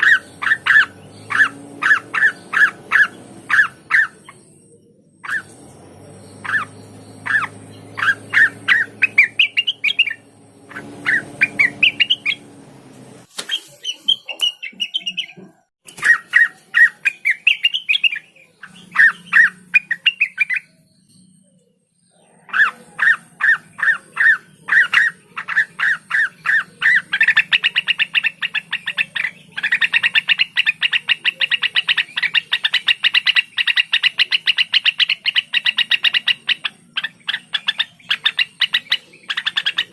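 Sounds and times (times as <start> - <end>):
bird singing sharp notes and trills: 0.0 - 39.9.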